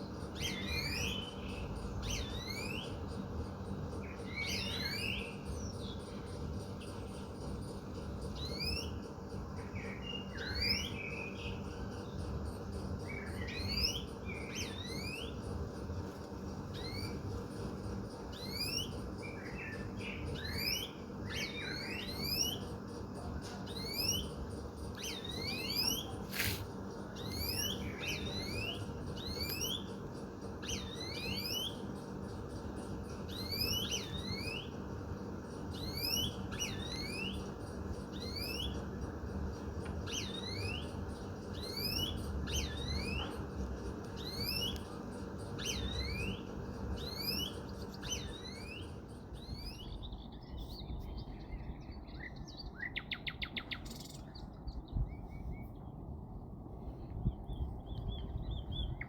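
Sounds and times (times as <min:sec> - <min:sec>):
birds chirping: 0:00.0 - 0:59.0
birds twittering: 0:00.0 - 0:59.0
low city hum: 0:00.0 - 0:59.0.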